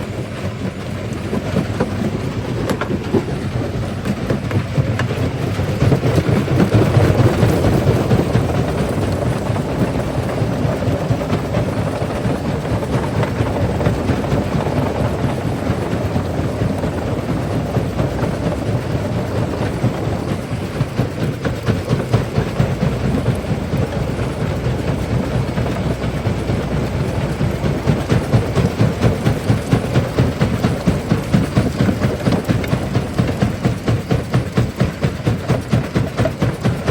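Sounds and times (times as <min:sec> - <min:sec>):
rock crusher rumbling: 0:00.0 - 0:36.9.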